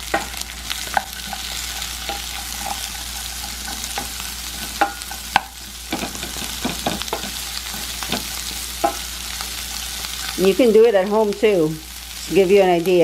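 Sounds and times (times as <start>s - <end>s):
onions and peppers sizzling in a pan: 0.0s - 13.0s.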